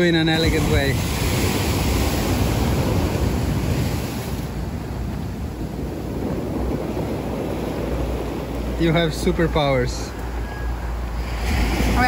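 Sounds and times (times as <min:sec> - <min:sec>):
surf breaking on rocky shore: 0:00.0 - 0:12.0
wind buffeting microphone: 0:00.0 - 0:12.0.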